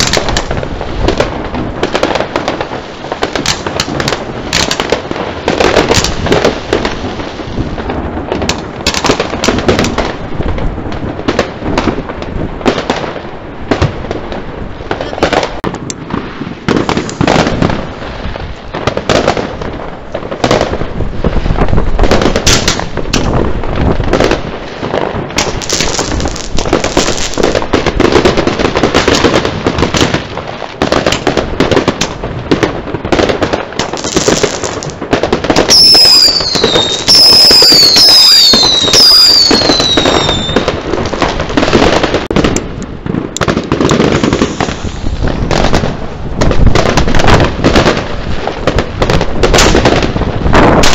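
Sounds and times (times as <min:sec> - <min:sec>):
firework bangs and crackling: 0:00.0 - 0:50.9
whistling fireworks: 0:00.0 - 0:50.9.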